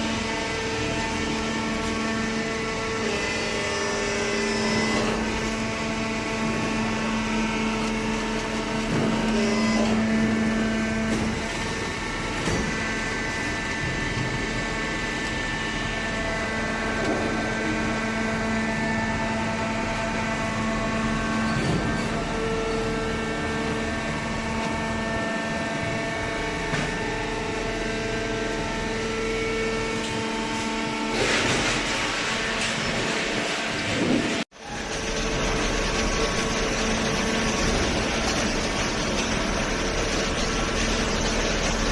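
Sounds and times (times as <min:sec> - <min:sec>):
hydraulic machine hum and whine: 0:00.0 - 0:41.9.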